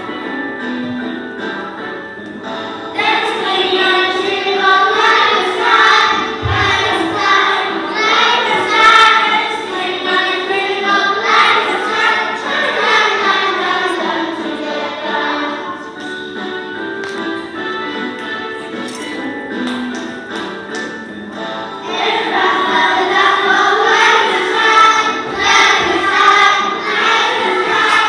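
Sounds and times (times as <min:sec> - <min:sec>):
children's choir singing: 0:00.0 - 0:00.5, 0:02.6 - 0:19.4, 0:20.3 - 0:28.0
musical accompaniment: 0:00.0 - 0:28.0.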